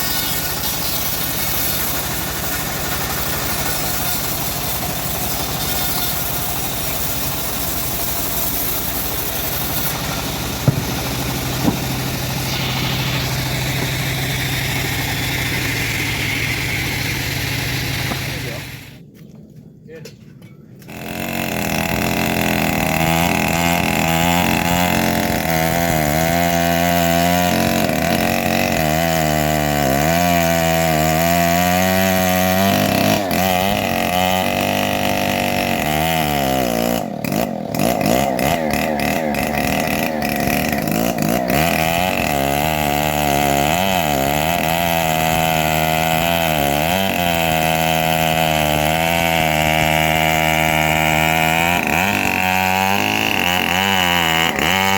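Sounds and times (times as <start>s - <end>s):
sawmill engine running: 0.0s - 19.0s, 20.9s - 54.9s.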